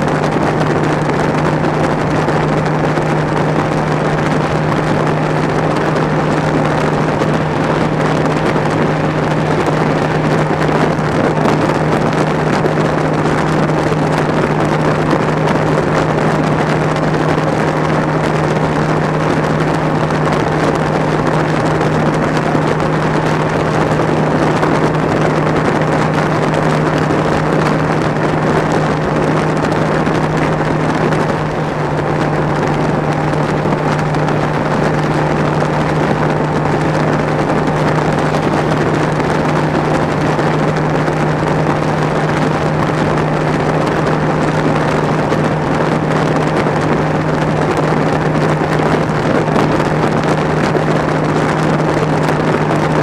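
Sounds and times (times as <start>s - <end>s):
boat engine drone: 0.0s - 53.0s
wind rushing on microphone: 0.0s - 53.0s.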